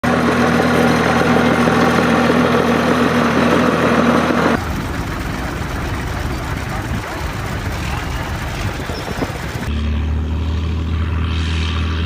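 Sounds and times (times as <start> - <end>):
tractor diesel engine running: 0.0 - 11.6.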